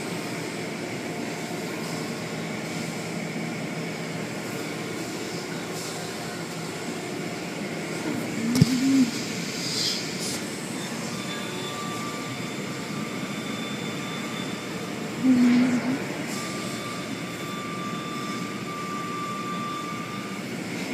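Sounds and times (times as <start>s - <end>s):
car wash machinery rushing: 0.0s - 20.9s
faint steady whine: 0.0s - 20.9s.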